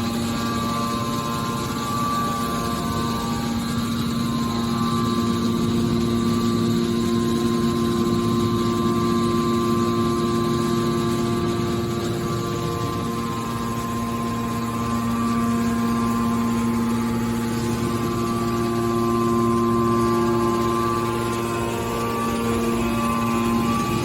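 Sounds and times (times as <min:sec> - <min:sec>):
baler motor and pump humming: 0:00.0 - 0:24.0
constant mechanical whine: 0:00.0 - 0:24.0.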